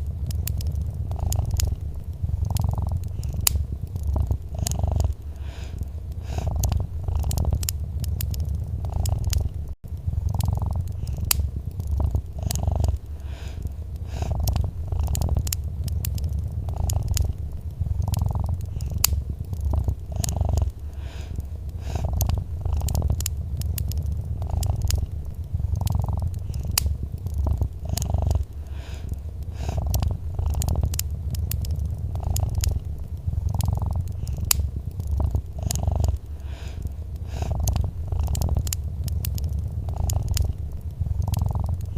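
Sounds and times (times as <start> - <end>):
cat purring: 0.0 - 41.9
wood fire crackling: 0.0 - 41.9.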